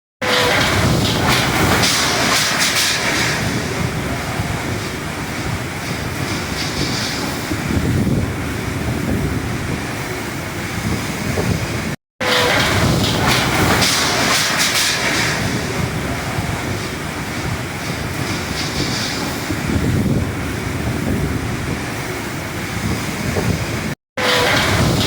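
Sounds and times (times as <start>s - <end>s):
strong wind blowing: 0.3s - 25.0s
wind buffeting microphone: 0.5s - 25.0s.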